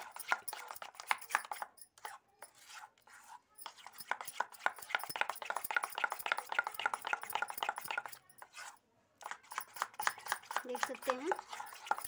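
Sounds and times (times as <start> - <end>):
batter beaten in a steel bowl: 0.0 - 12.0.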